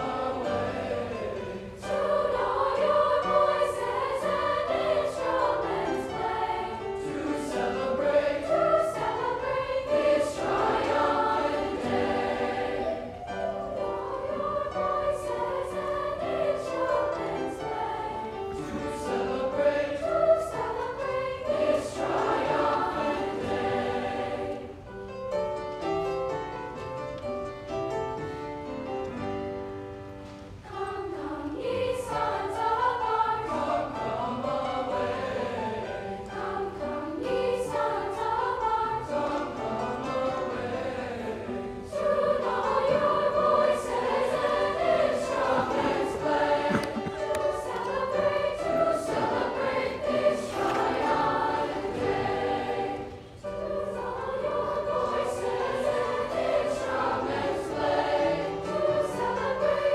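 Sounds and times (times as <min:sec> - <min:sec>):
children's choir singing: 0:00.0 - 0:25.1, 0:30.0 - 0:59.9.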